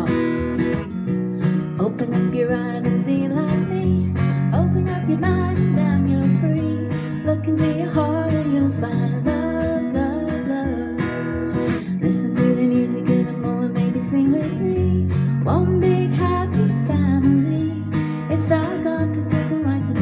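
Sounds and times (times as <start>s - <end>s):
woman singing: 0.0s - 0.8s, 1.4s - 20.0s
acoustic guitar strumming: 0.0s - 20.0s.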